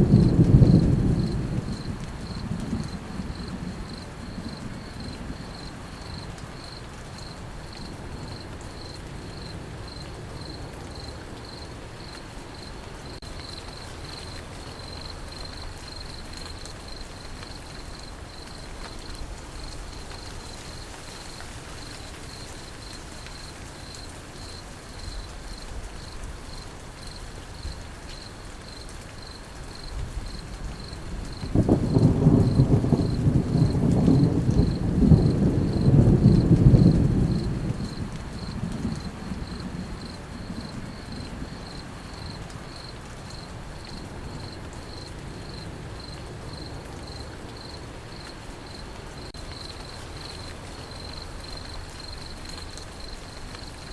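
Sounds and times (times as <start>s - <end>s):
low rumble of thunder: 0.0s - 48.4s
crickets chirping: 0.0s - 53.9s
rain hissing: 0.0s - 53.9s.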